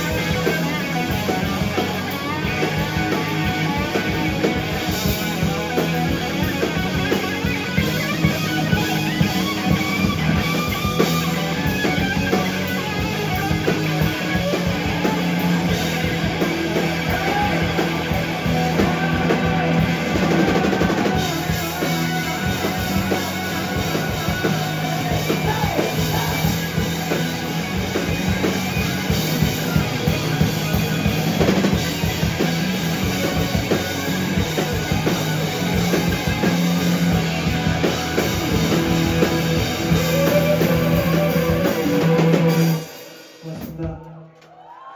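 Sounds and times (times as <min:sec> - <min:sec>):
rock band playing live: 0:00.0 - 0:44.1.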